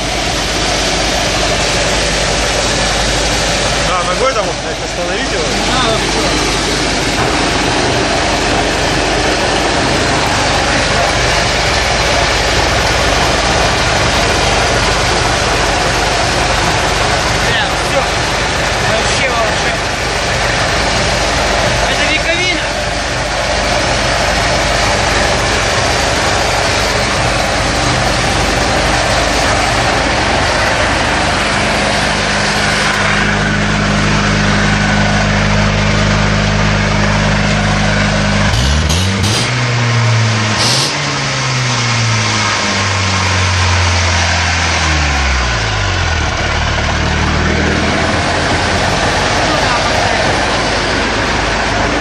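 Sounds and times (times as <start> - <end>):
motorboat engine running and revving: 0.0 - 52.0.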